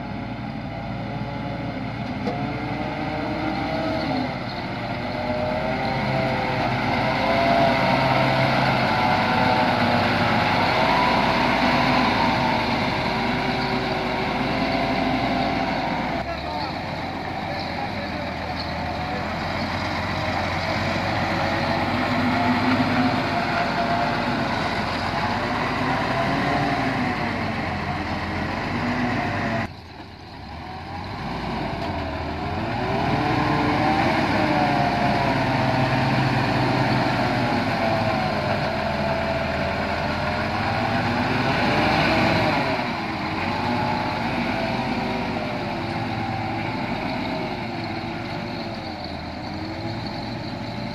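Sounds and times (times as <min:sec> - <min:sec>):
dump truck diesel engine: 0:00.0 - 0:50.9.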